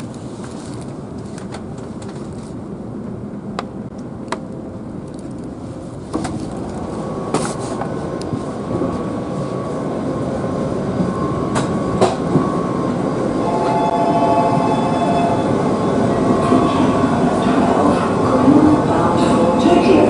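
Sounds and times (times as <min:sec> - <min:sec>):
train rushing: 0:00.0 - 0:20.0.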